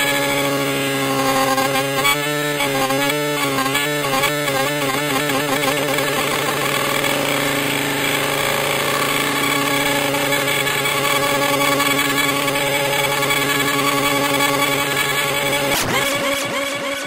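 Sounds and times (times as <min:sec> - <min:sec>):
synthesizer droning note: 0:00.0 - 0:17.0.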